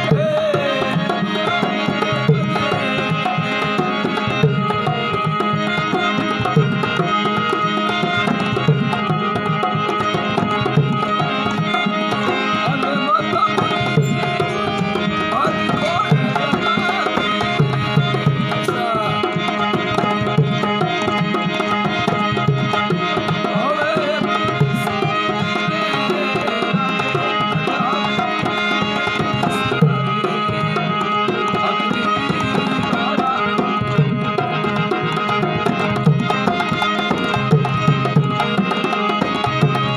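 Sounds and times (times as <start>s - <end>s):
hand drum rhythm: 0.0s - 39.9s
harmonium drone and melody: 0.0s - 39.9s.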